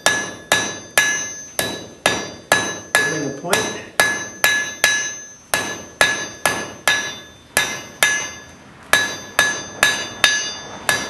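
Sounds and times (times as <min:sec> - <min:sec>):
hammer striking iron on anvil: 0:00.0 - 0:11.0.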